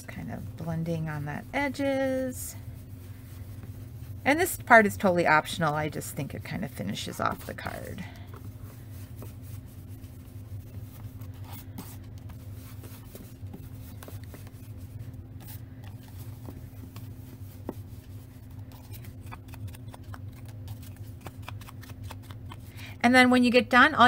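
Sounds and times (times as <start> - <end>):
steady low hum: 0.0 - 24.0
brush rubbing on cardstock: 0.1 - 4.5, 5.6 - 22.6.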